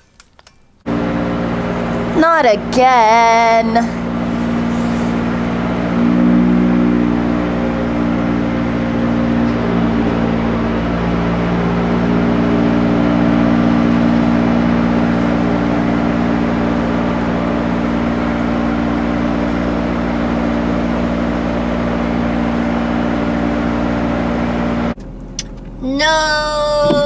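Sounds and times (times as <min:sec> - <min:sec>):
car engine drone: 0:00.8 - 0:27.0
road noise inside car: 0:00.9 - 0:27.0.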